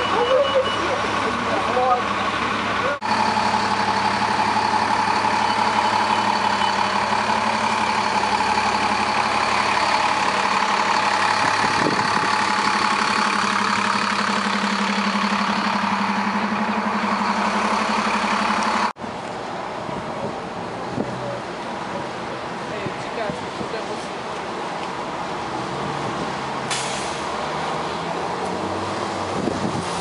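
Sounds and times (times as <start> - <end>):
bus engine idling: 0.0 - 30.0.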